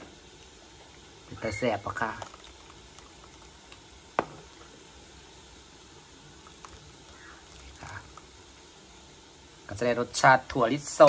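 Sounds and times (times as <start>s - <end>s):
sauce bubbling: 0.1s - 9.7s.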